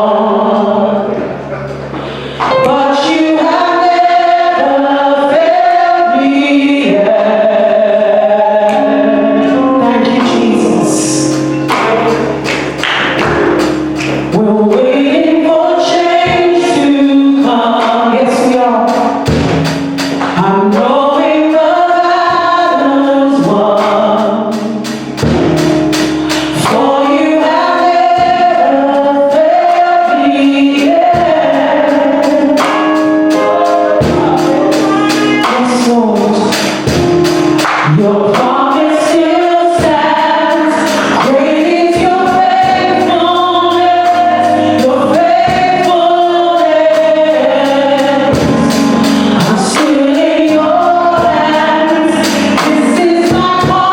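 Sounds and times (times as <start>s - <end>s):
group singing gospel: 0.0s - 53.9s
music with steady beat: 0.0s - 53.9s.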